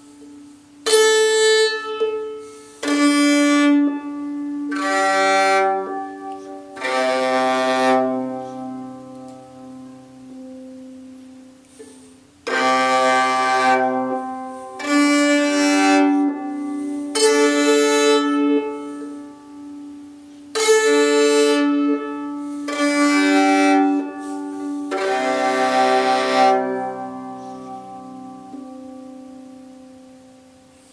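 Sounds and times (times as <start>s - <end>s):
bowed viola strokes: 0.0s - 30.9s
sympathetic strings ringing: 0.0s - 30.9s.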